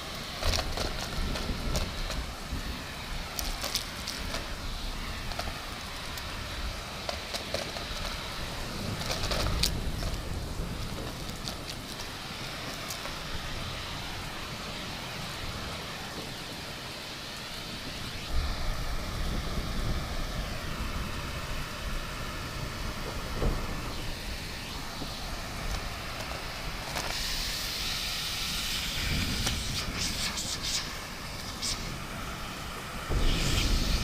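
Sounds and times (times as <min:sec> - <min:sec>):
heavy rain pattering: 0:00.0 - 0:34.0
vacuum cleaner running: 0:00.0 - 0:34.0
low thunder rumbles: 0:00.4 - 0:16.8, 0:17.7 - 0:27.0, 0:27.9 - 0:34.0.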